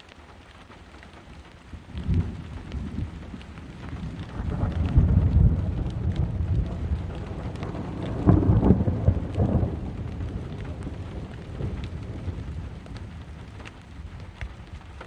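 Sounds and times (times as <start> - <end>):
raindrop ticks: 0.0 - 15.0
steady rain: 0.0 - 15.0
thunder rumbling: 1.7 - 15.0.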